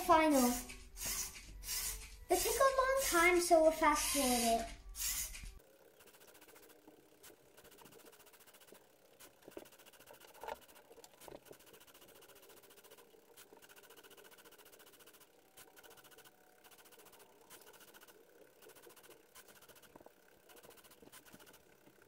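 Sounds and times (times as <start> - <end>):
plotter motors ticking: 0.0 - 22.0.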